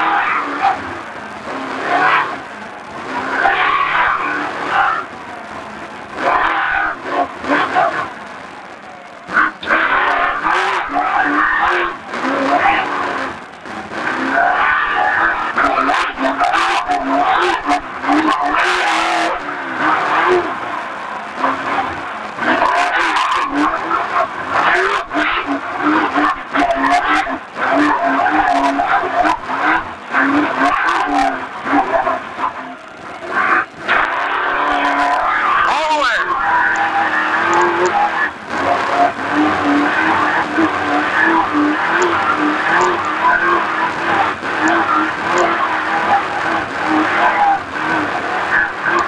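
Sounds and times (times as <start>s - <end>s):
truck engine revving: 0.0s - 49.0s.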